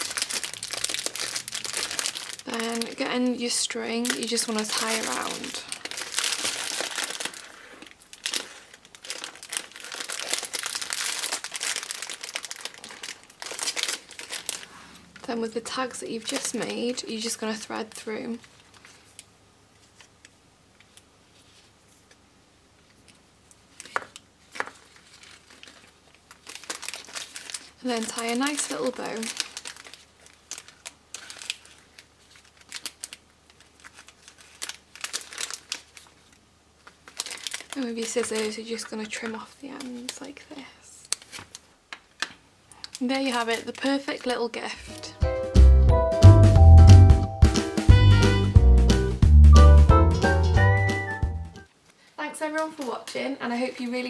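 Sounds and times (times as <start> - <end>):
plastic film crinkling: 0.0 - 22.2, 23.0 - 45.2.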